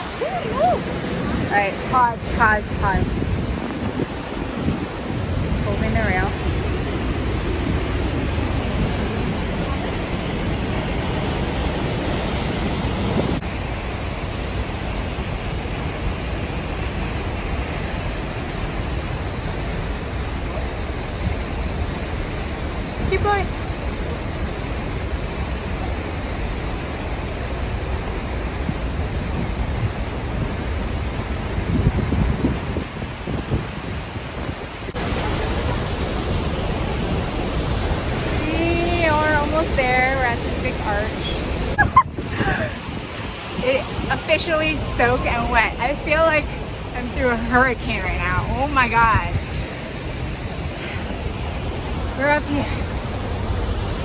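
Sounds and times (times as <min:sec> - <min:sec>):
waterfall roaring: 0:00.0 - 0:54.0
wind buffeting microphone: 0:00.0 - 0:54.0.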